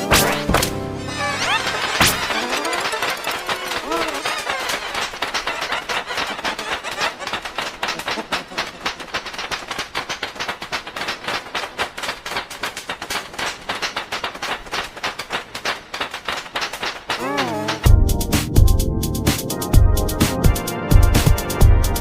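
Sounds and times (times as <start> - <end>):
rapid sharp clicks and clacks: 0.0 - 18.7.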